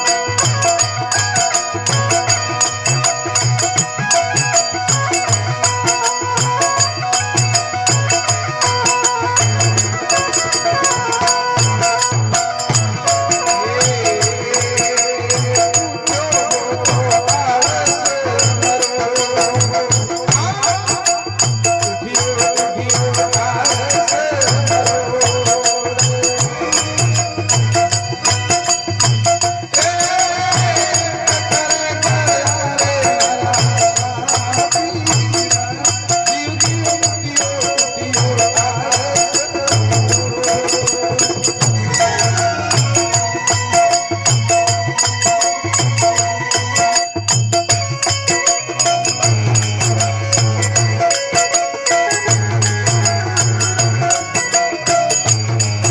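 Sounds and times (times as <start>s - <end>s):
jingling percussion: 0.0s - 55.9s
steady drum beat: 0.0s - 55.9s.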